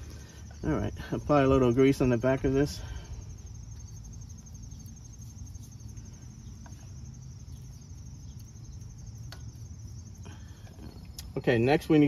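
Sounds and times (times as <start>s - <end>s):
insects trilling: 0.0s - 12.0s
low steady rumble: 0.0s - 12.0s.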